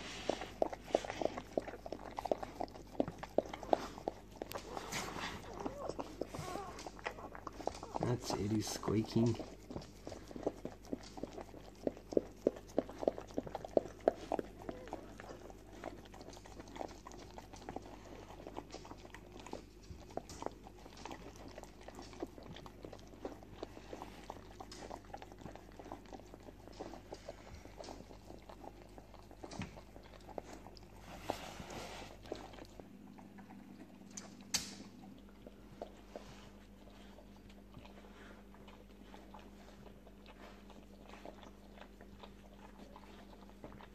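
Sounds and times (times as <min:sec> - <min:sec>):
dogs licking and chewing: 0:00.0 - 0:43.9.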